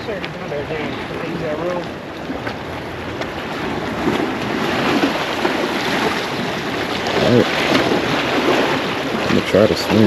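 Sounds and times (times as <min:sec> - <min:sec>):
waves washing: 0:00.0 - 0:10.0
wind buffeting microphone: 0:00.0 - 0:10.0.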